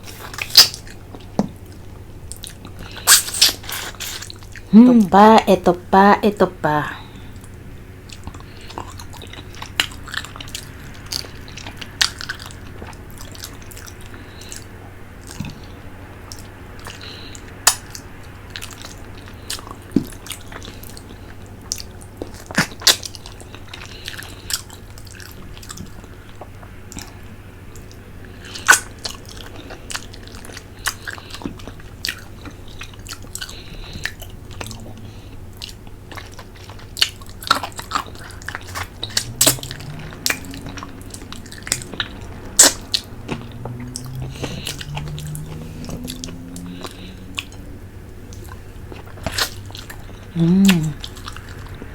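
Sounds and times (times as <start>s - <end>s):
sucking and chewing: 0.0s - 4.7s, 7.0s - 51.9s.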